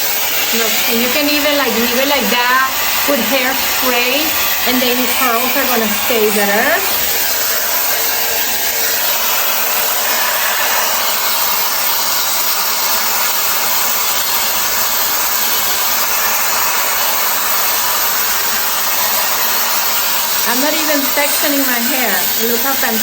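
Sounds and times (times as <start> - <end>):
air styler blowing air: 0.0 - 23.0.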